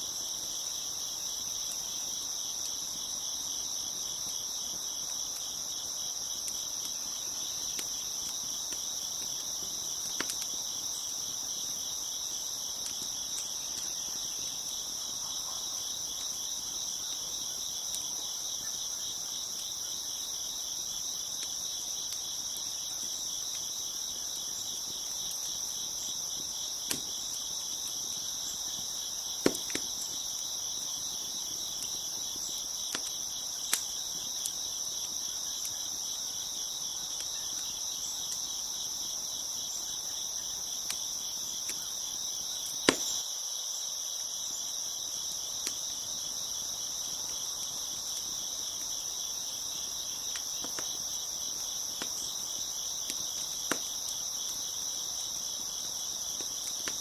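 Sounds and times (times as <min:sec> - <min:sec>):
crickets chirping: 0:00.0 - 0:57.0
wood fire popping and cracking: 0:01.2 - 0:15.2, 0:16.0 - 0:38.4, 0:47.0 - 0:54.6, 0:55.6 - 0:57.0.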